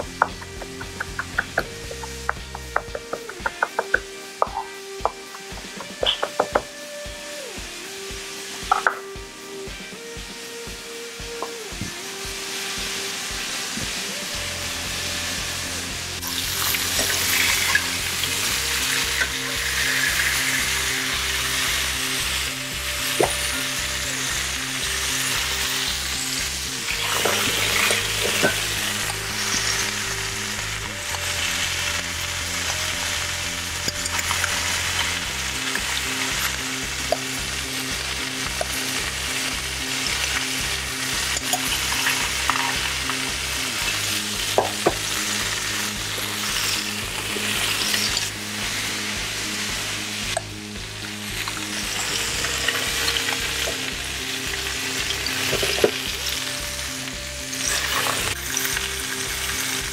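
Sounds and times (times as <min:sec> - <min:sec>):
background music with beat: 0:00.0 - 0:59.9
meat sizzling in a skillet: 0:00.0 - 0:59.9.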